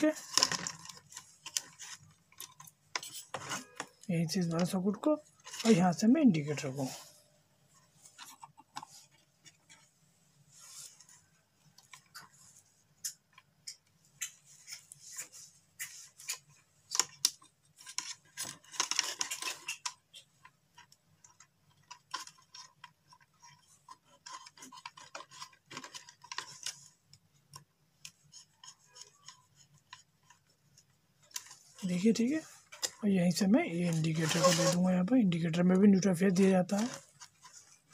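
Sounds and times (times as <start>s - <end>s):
insulated wire rustling: 0.0s - 37.9s.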